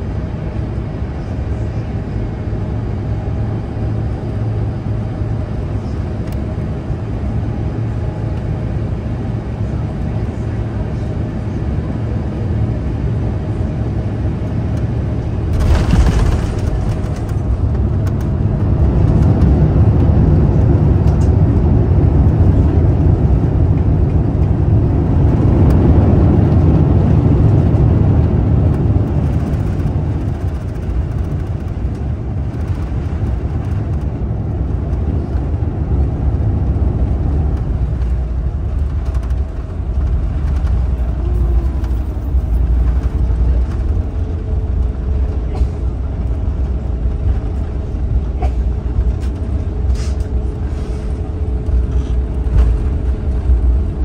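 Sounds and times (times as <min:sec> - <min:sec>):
aircraft landing rumble in cabin: 0:00.0 - 0:54.0.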